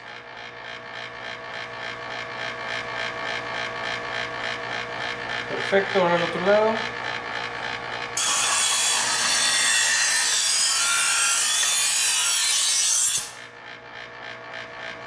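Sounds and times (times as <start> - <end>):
electric knife sharpener grinding: 0.0 - 15.0.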